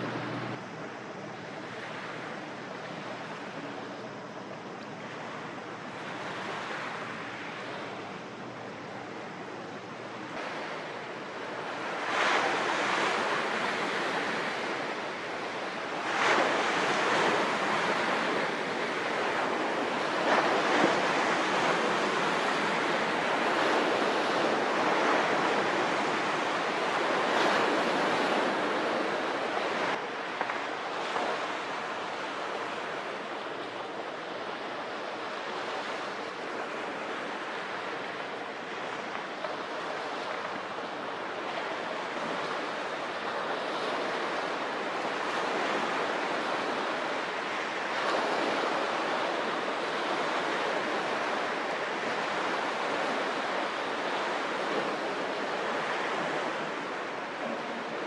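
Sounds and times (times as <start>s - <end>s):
harbour water rushing: 0.0s - 58.0s
wind: 0.0s - 58.0s.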